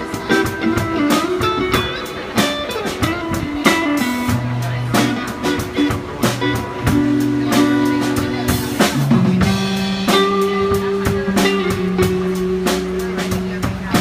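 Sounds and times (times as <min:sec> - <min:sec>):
drum beat with cymbals: 0:00.0 - 0:14.0
electric guitar playing blues: 0:00.0 - 0:14.0.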